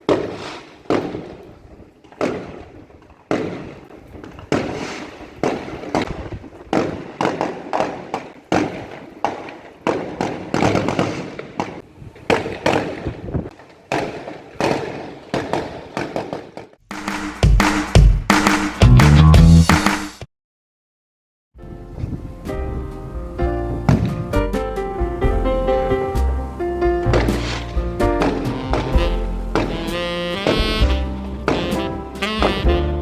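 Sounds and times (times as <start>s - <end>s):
fireworks exploding: 0.0s - 18.8s, 21.9s - 33.0s.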